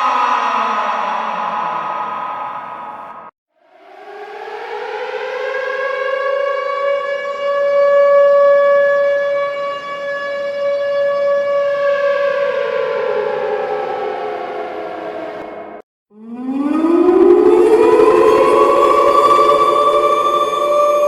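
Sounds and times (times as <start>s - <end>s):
air-raid siren wailing: 0.0s - 21.0s.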